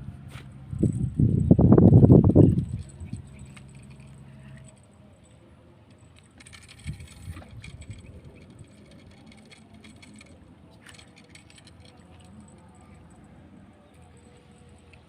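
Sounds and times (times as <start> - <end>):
low background noise: 0.0 - 15.0
handling noise rustling and clicking: 0.2 - 15.0.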